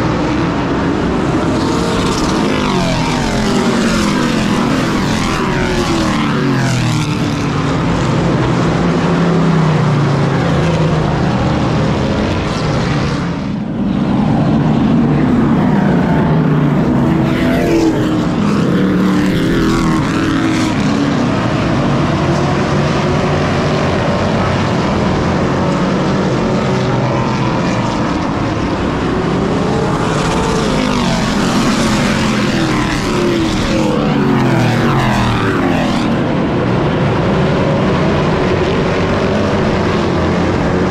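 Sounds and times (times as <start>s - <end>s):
race truck engine running hard: 0.0s - 40.9s.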